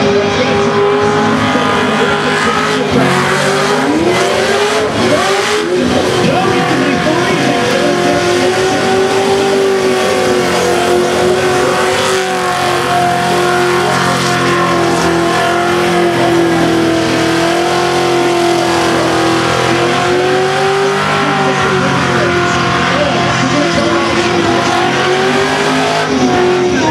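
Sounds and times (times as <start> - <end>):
car engine revving high: 0.0 - 26.9.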